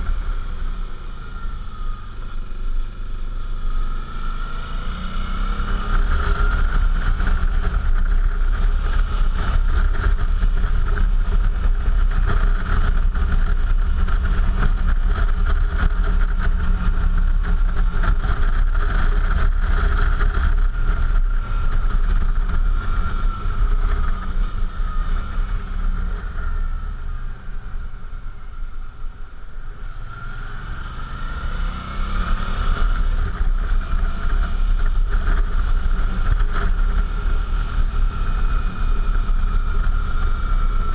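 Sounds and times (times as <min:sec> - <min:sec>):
motorcycle engine running: 0:00.0 - 0:40.9
wind rumble on microphone: 0:00.0 - 0:40.9.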